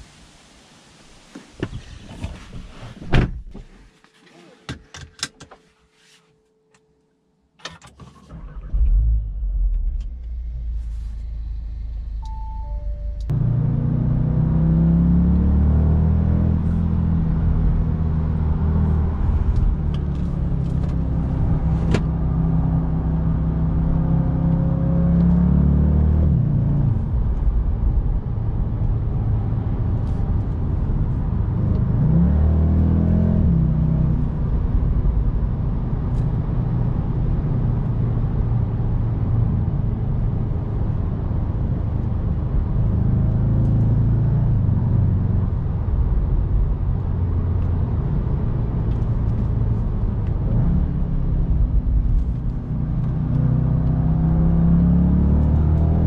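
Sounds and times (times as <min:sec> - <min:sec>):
car engine starting: 0:07.6 - 0:56.0
car engine under gentle load: 0:07.6 - 0:56.0.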